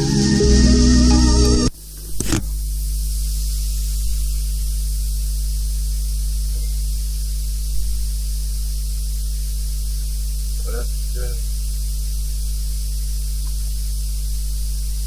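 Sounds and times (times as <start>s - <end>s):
constant hiss: 0.0s - 15.0s
low electrical hum: 0.0s - 15.0s.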